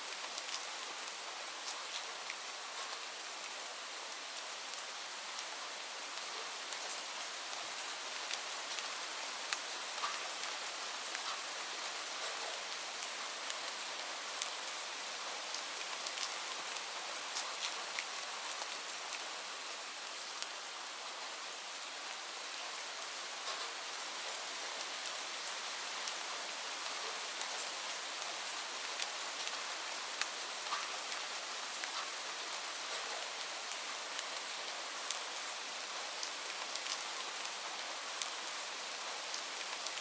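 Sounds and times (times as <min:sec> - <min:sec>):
rain hissing on leaves: 0:00.0 - 0:40.0.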